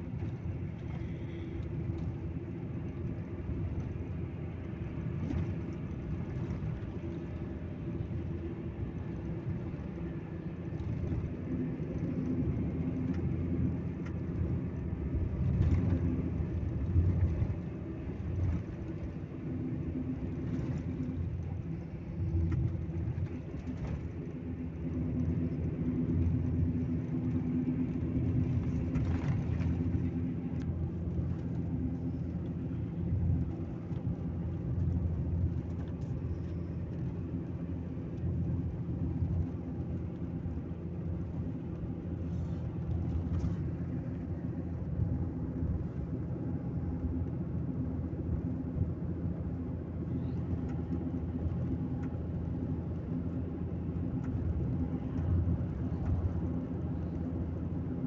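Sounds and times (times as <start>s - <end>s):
engine and road rumble drone: 0.0s - 58.0s.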